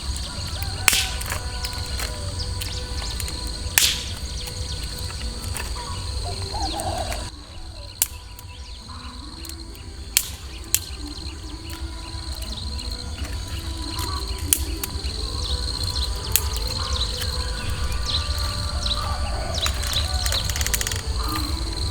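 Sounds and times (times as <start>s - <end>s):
high insect trill: 0.0s - 21.9s.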